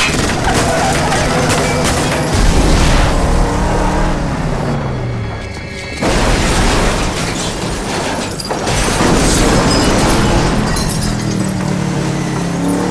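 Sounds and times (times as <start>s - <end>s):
truck crashing and rolling: 0.0s - 12.9s.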